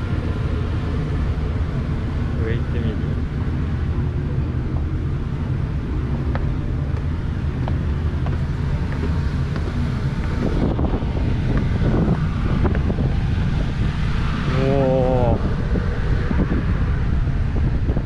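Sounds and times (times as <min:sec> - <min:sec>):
ship low rumble: 0:00.0 - 0:18.0
wind on microphone: 0:00.0 - 0:18.0.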